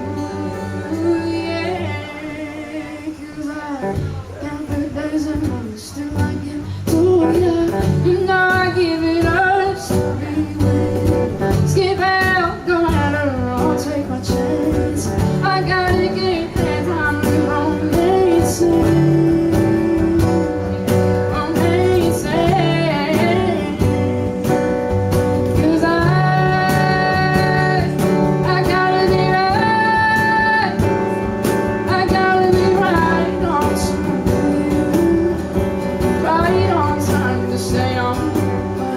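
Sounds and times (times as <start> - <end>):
cajon: 0.0 - 38.9
guitar: 0.0 - 38.9
woman singing: 0.0 - 38.9.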